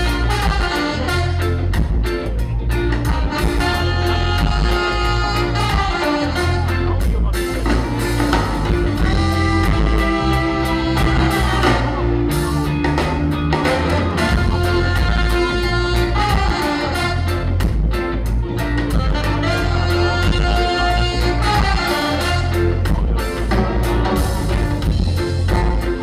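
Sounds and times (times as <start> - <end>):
live ska band playing: 0.0 - 26.0.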